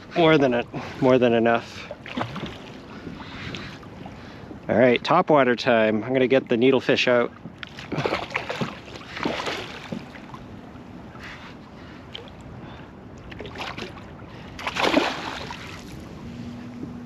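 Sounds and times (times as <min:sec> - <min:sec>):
water lapping against canoe hull: 0:00.0 - 0:17.0.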